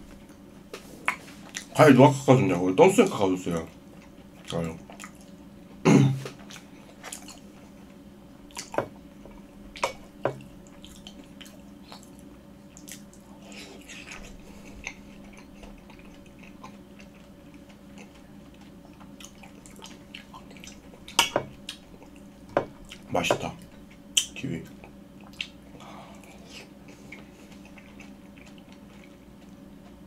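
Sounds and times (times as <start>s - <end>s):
chewing soft food: 0.1s - 1.8s, 3.1s - 30.0s.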